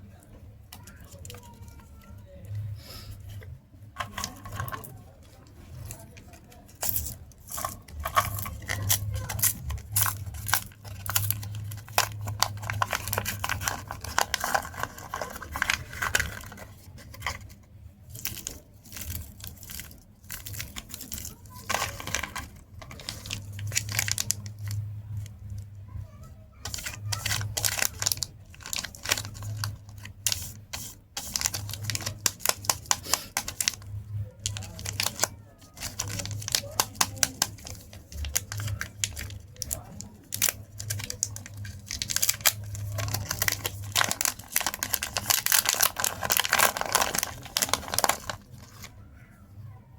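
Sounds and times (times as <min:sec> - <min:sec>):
wrappers crinkling and tearing: 0:04.0 - 0:25.6, 0:26.6 - 0:48.9.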